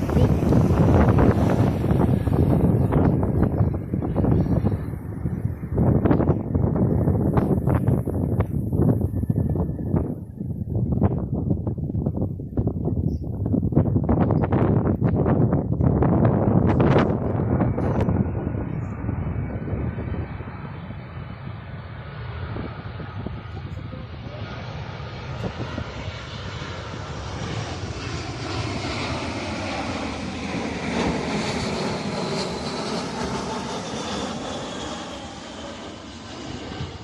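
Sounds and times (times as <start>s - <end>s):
jet airliner passing close: 0.0s - 37.0s.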